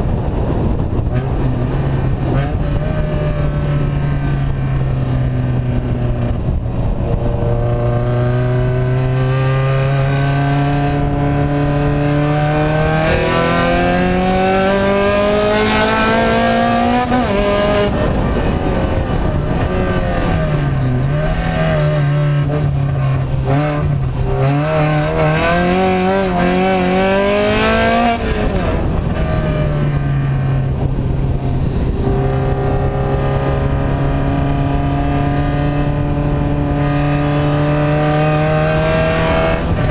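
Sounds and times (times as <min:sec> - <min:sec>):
unsilenced vehicle engine: 0:00.0 - 0:39.9.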